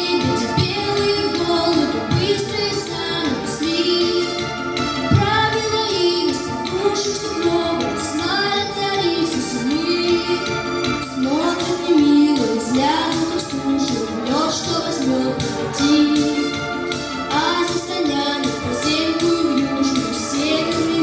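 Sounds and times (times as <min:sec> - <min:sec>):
girl singing: 0:00.0 - 0:04.4, 0:05.1 - 0:10.6, 0:11.2 - 0:16.5, 0:17.3 - 0:21.0
instrumental accompaniment: 0:00.0 - 0:21.0.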